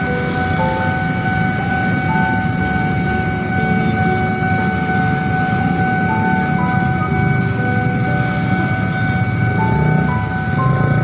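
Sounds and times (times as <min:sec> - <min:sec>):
freight train rumbling past: 0:00.0 - 0:11.0
high electronic tone: 0:00.0 - 0:11.0.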